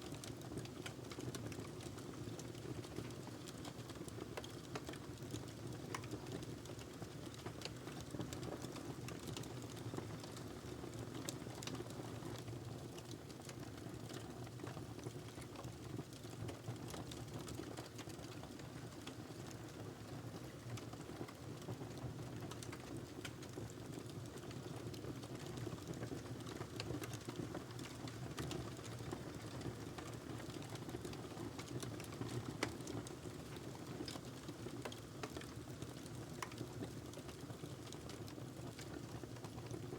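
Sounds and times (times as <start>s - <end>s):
fire crackling and popping: 0.2s - 39.8s.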